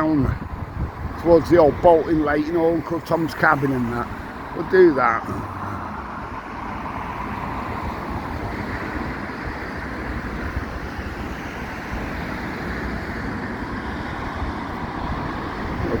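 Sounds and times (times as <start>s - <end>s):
road traffic going by: 0.0s - 16.0s
wind rumbling on microphone: 0.0s - 16.0s.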